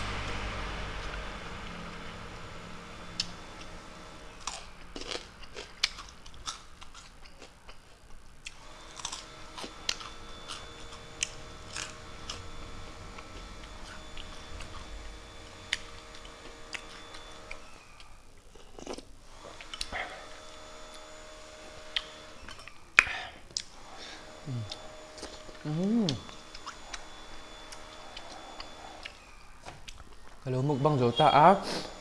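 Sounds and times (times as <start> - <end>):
faint steady hum: 0.0 - 32.0
person chewing food: 3.1 - 21.1, 21.8 - 30.4.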